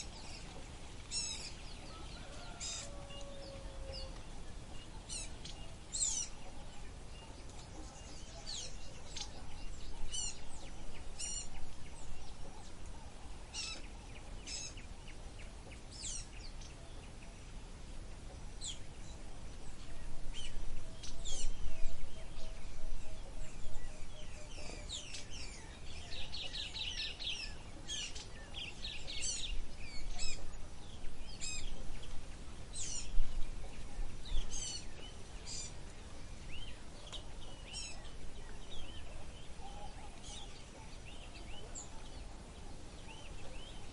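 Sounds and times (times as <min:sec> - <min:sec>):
low background noise: 0:00.0 - 0:43.9
small birds chirping: 0:00.0 - 0:43.9.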